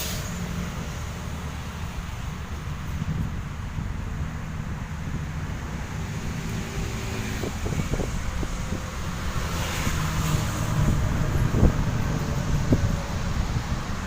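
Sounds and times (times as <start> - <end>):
wind buffeting microphone: 0.7 - 14.0.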